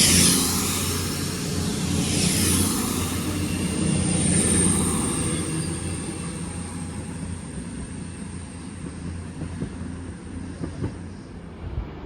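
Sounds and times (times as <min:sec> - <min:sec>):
high whine: 0:00.0 - 0:10.4
train engines humming: 0:00.0 - 0:12.0.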